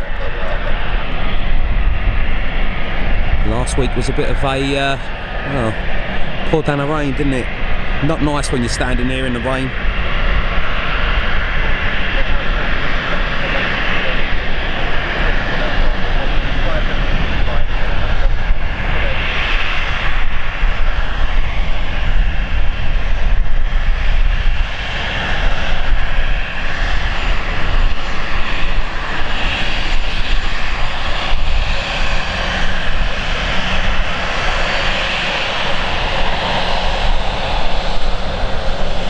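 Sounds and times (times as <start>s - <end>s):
jet engines running loud: 0.0s - 39.0s.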